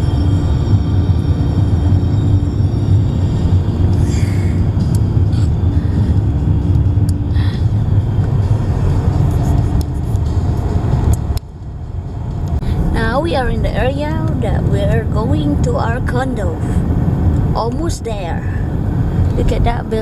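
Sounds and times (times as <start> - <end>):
held hum: 0.0 - 20.0
road rumble inside car: 0.0 - 20.0.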